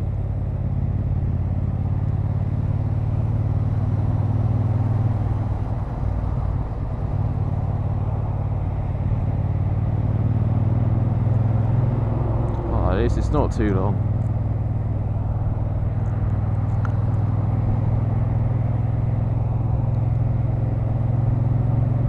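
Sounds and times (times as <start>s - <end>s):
motorcycle engine droning: 0.0s - 22.0s
wind and road noise: 0.0s - 22.0s.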